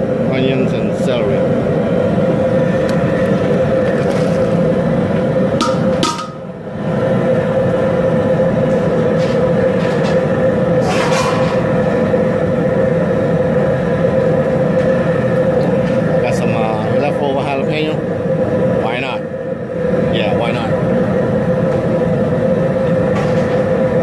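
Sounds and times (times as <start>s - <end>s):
gas burner roaring: 0.0s - 24.0s.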